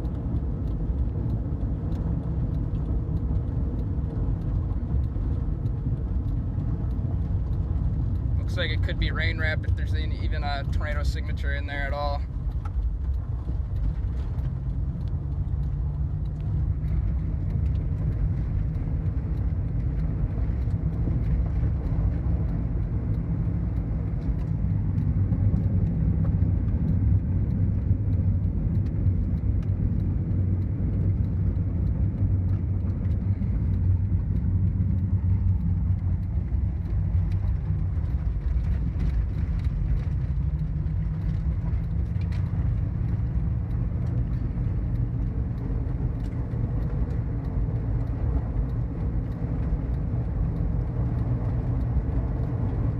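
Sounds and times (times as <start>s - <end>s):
car engine and tyre rumble: 0.0s - 52.9s.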